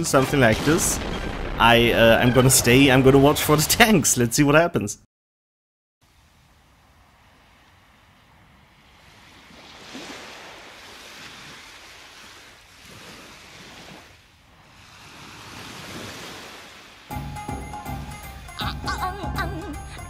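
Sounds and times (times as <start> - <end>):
ocean surf washing in: 0.0 - 4.3, 6.0 - 18.5.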